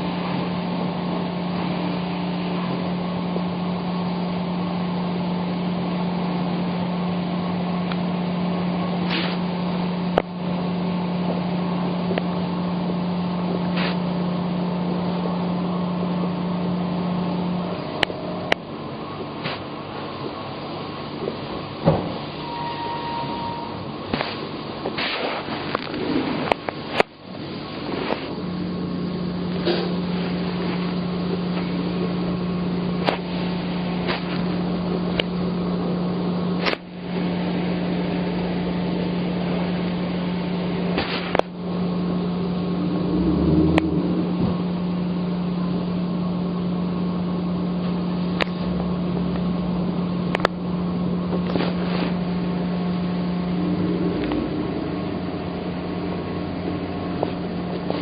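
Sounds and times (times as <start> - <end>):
boat motor humming: 0.0 - 58.0.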